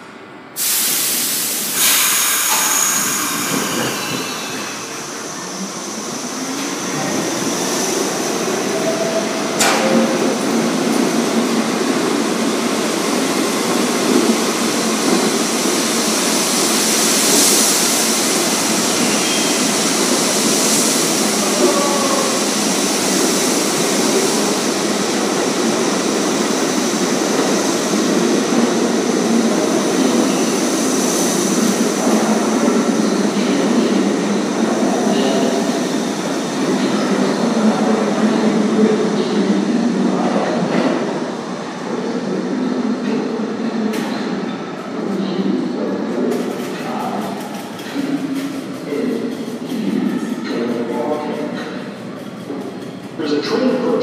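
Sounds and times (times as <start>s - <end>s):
subway train motors whining: 0.0s - 54.0s
train rumble and wheel noise: 0.0s - 54.0s.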